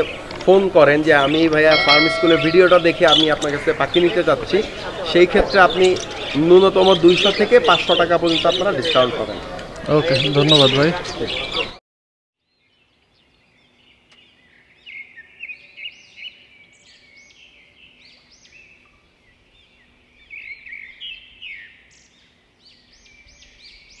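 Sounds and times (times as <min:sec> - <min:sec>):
cage birds chirping: 0:00.0 - 0:11.8, 0:12.5 - 0:24.0.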